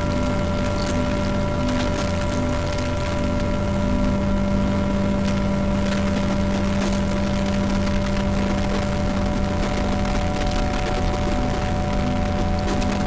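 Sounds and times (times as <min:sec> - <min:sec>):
droning experimental music: 0:00.0 - 0:13.0
faint crackles: 0:00.0 - 0:13.0.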